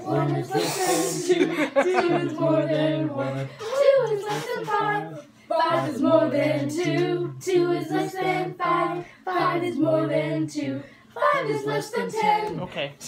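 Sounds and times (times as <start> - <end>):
voices singing unaccompanied: 0.0 - 12.9.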